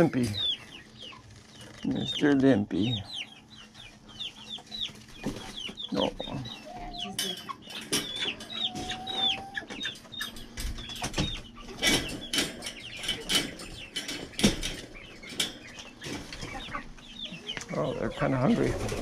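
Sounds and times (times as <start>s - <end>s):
chickens calling: 0.0s - 19.0s.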